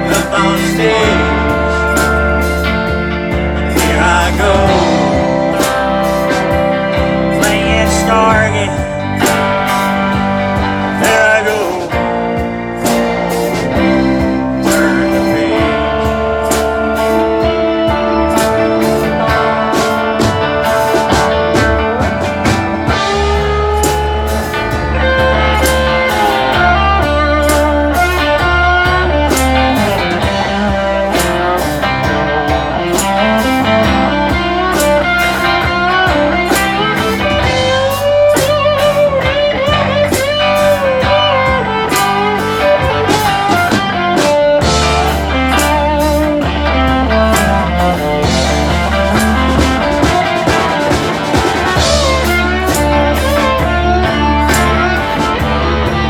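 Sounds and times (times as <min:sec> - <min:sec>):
bass notes: 0:00.0 - 0:56.0
drums steady beat: 0:00.0 - 0:56.0.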